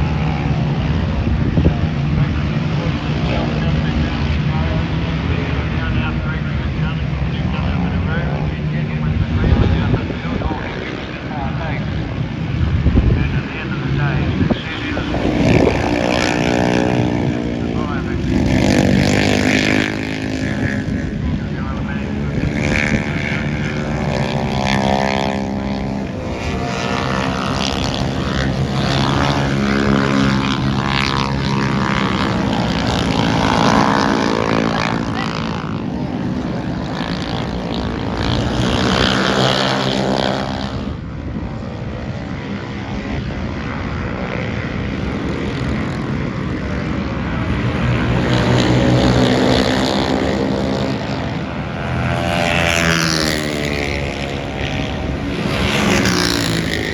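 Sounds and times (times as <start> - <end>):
racing motorcycles passing: 0.0 - 56.9.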